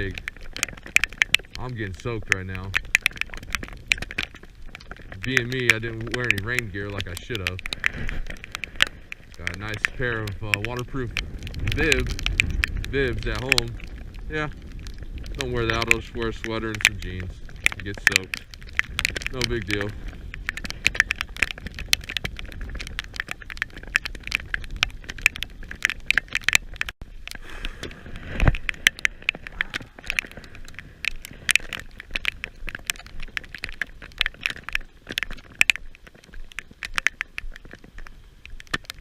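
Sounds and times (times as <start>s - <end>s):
rain tapping on camera case: 0.0s - 39.0s.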